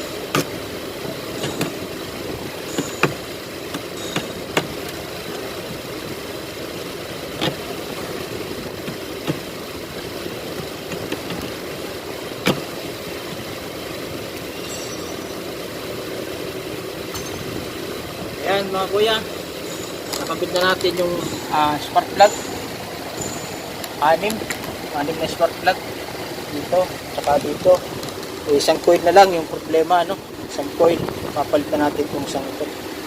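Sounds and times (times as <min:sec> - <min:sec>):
steady engine-like drone: 0:00.0 - 0:33.0.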